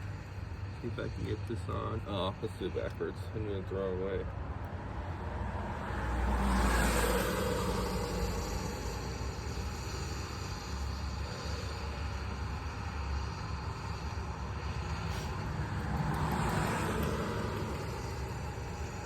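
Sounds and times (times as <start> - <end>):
road traffic noise: 0.0 - 19.0
vehicle passing: 0.8 - 19.0.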